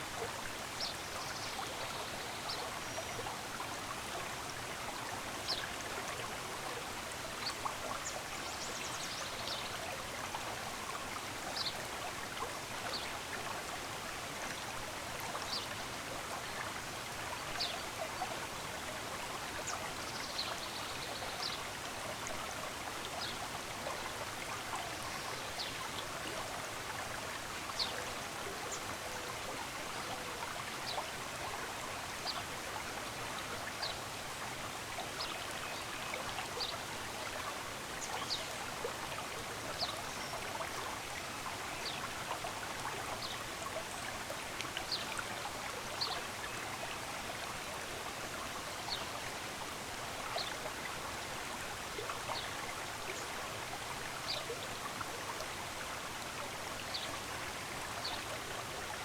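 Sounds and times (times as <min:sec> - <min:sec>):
flowing stream: 0:00.0 - 0:59.0.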